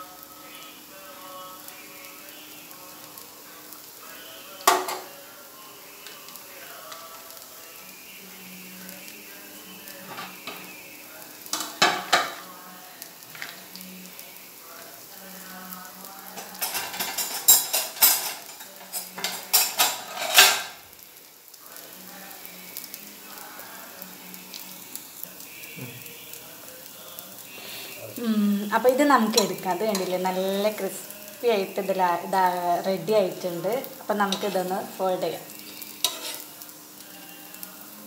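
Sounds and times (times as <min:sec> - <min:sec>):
batter sizzling on a pan: 0:00.0 - 0:38.0.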